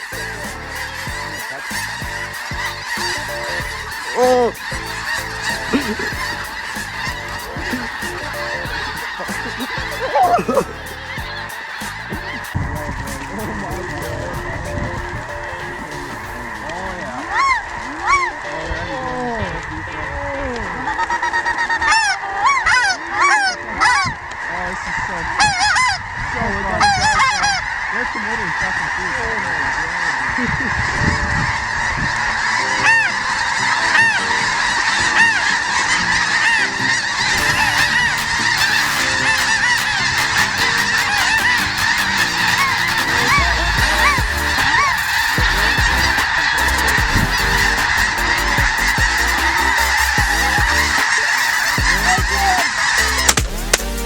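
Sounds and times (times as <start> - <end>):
flock of geese honking: 0.0 - 53.4.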